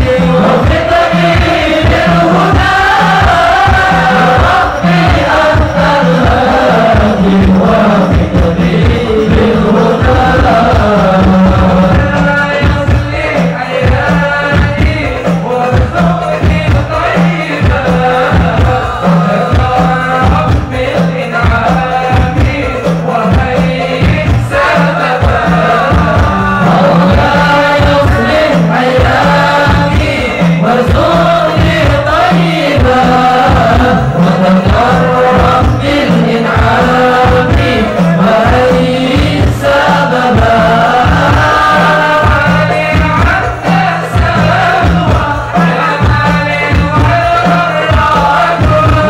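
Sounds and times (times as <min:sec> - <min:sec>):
men chanting through pa system: 0:00.0 - 0:49.0
steady drum beat: 0:00.0 - 0:49.0.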